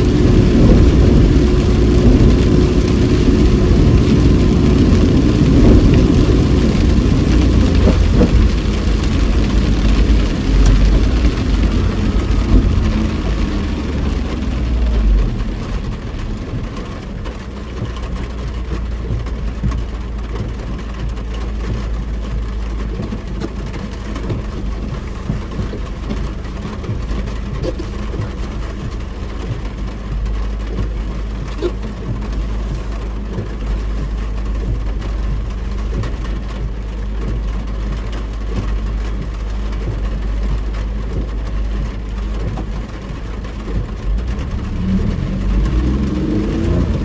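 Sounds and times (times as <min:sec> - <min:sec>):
car road and engine noise: 0:00.0 - 0:47.0
heavy rain on car: 0:00.0 - 0:47.0.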